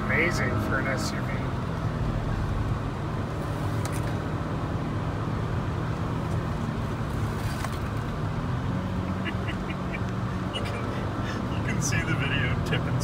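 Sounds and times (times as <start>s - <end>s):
car engine drone: 0.0s - 13.0s
tyre and road rumble: 0.0s - 13.0s.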